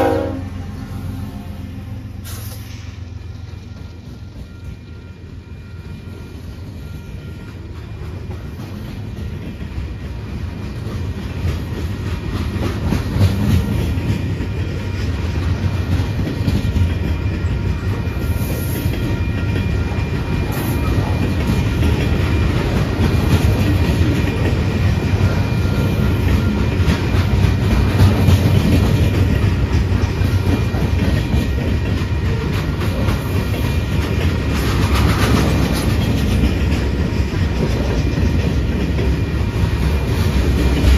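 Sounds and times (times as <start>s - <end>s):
freight train wheels rumbling on rail: 0.0s - 40.9s
wheels clacking over rail joints: 7.4s - 40.9s.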